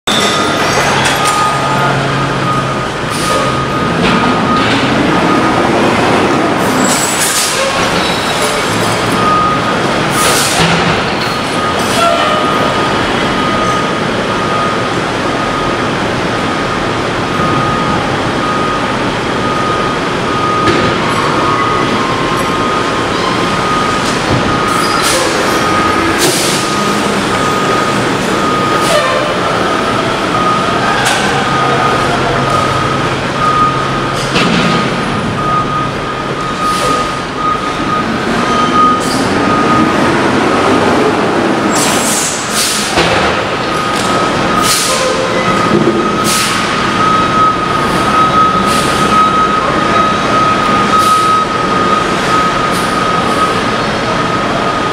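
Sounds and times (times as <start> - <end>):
garbage truck mechanical din: 0.1 - 54.9.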